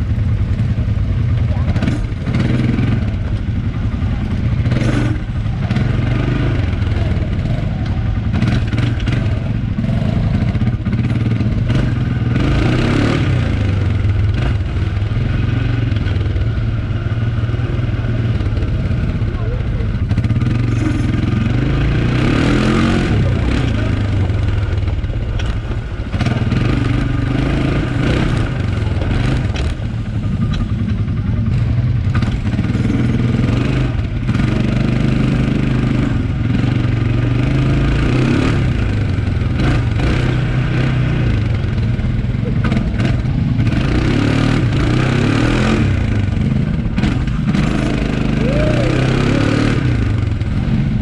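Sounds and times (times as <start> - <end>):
quad bike engine running: 0.0 - 51.0.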